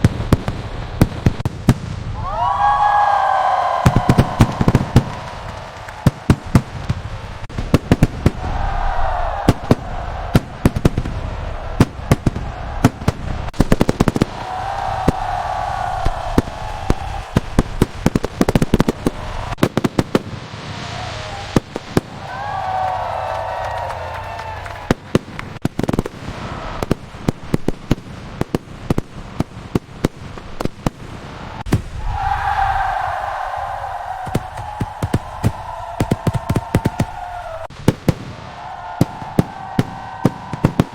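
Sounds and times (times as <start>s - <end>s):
fireworks banging and crackling: 0.0s - 40.9s.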